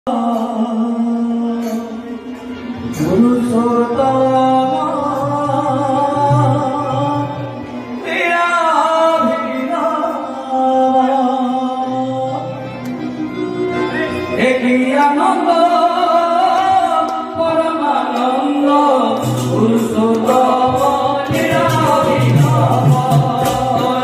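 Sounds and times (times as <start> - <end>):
instrumental accompaniment: 0.1 - 24.0
men singing devotional song: 2.9 - 12.6, 14.2 - 24.0.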